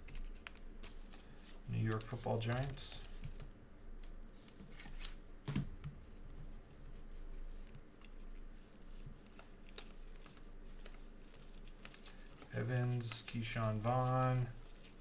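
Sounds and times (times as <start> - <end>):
cards rustling and clicking: 0.0 - 6.9, 7.5 - 15.0.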